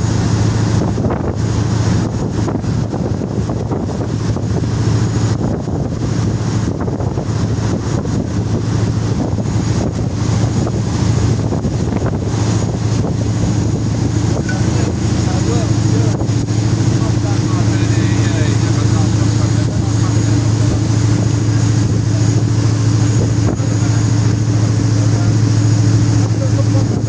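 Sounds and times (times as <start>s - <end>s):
boat engine droning: 0.0s - 27.0s
water wake washing: 0.0s - 27.0s
wind buffeting microphone: 0.0s - 27.0s.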